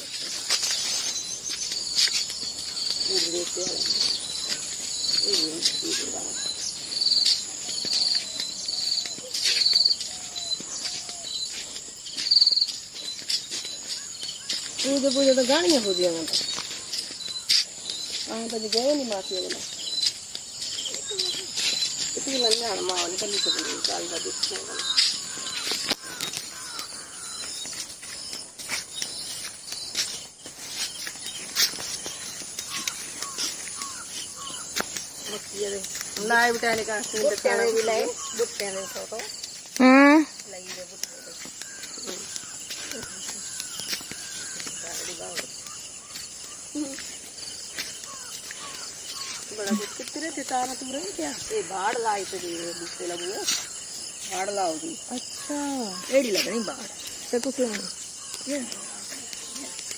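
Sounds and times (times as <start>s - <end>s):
crickets chirping: 0.0s - 59.9s
high-pitched insect drone: 0.0s - 59.9s.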